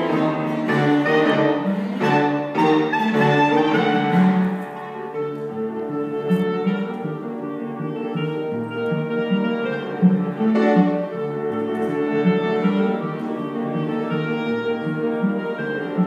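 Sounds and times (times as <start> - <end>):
piano and cello chamber music: 0.0 - 16.0.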